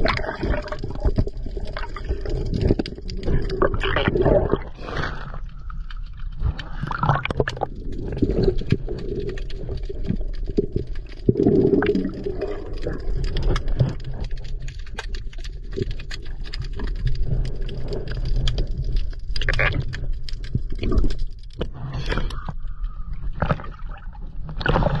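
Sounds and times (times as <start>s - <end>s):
gurgling underwater bubbles: 0.0s - 25.0s.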